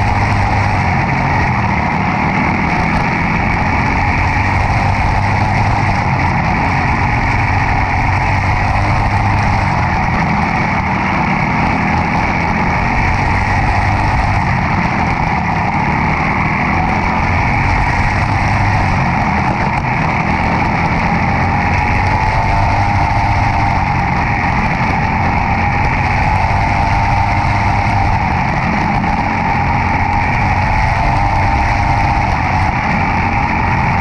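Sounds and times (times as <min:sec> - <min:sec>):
car engine running loud: 0:00.0 - 0:34.0.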